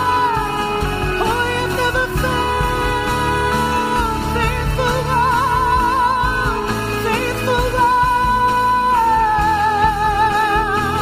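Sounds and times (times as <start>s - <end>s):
band accompaniment: 0.0s - 11.0s
person singing with vibrato: 0.0s - 11.0s.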